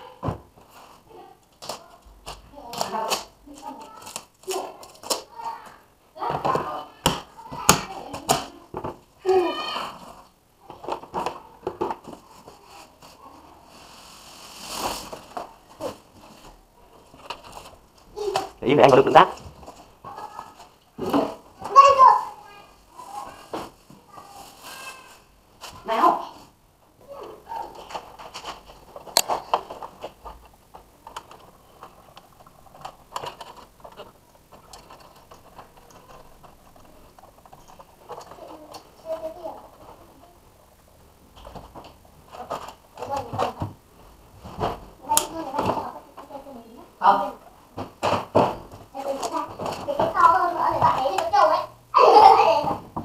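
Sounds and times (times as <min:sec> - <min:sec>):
plastic and cardboard rustling: 0:00.0 - 0:53.0.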